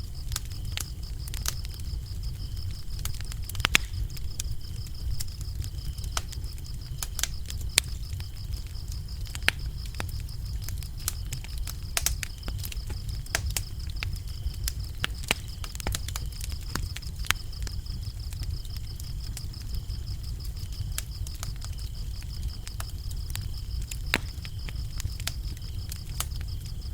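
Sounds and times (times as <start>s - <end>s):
crickets chirping: 0.0s - 26.9s
wood fire crackling and popping: 0.0s - 26.9s.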